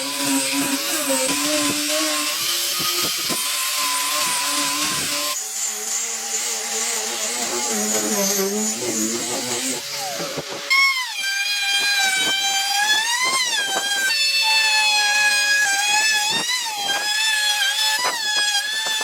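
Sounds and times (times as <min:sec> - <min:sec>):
power tool motor working wood: 0:00.0 - 0:19.0.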